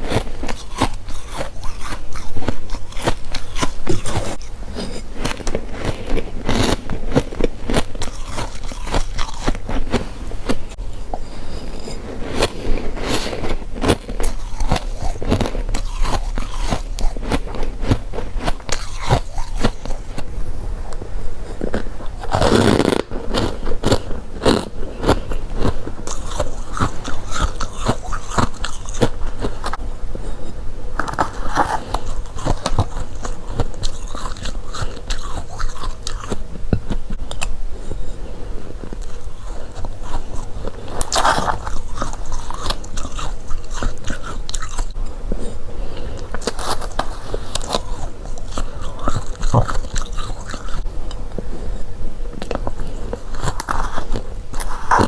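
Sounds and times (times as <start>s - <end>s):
crunchy frost being chewed: 0.0s - 55.0s.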